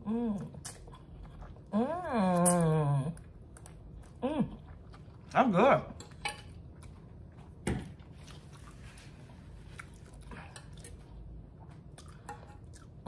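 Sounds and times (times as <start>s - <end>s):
quiet chewing: 0.2s - 13.0s.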